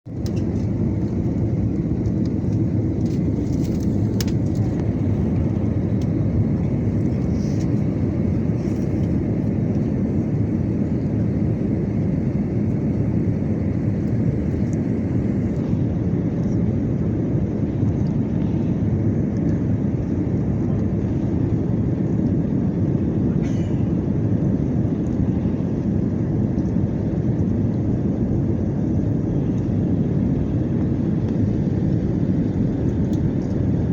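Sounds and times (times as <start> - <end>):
aircraft cabin roar: 0.0 - 33.9.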